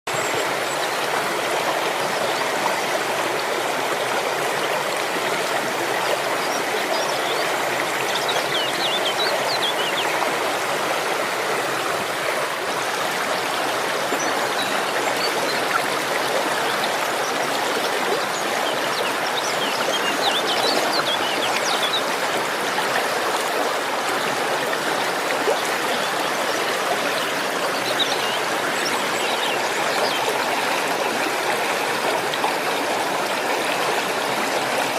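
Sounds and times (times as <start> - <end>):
stream running water: 0.1 - 34.9.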